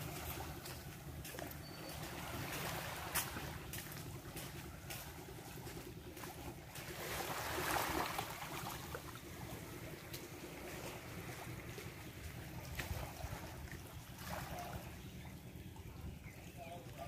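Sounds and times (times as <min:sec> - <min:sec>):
low steady rumble: 0:00.0 - 0:17.0
small waves lapping on shore: 0:00.0 - 0:17.0.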